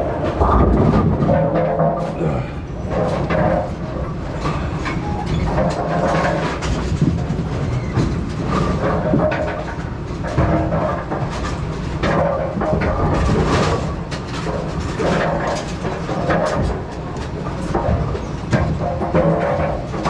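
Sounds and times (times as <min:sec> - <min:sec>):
machinery rumble: 0:00.0 - 0:20.0
rattling and clattering clicks: 0:00.0 - 0:20.0.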